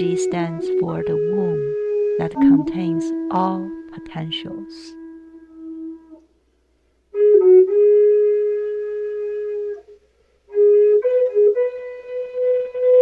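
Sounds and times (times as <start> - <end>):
slow solo flute melody: 0.0 - 6.3, 7.1 - 13.0.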